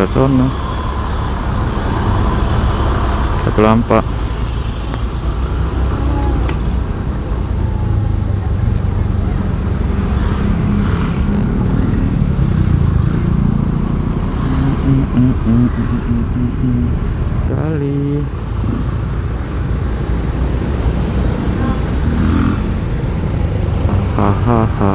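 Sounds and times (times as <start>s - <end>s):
motorcycle engine rumble: 0.0s - 24.9s
surrounding cars: 0.0s - 24.9s.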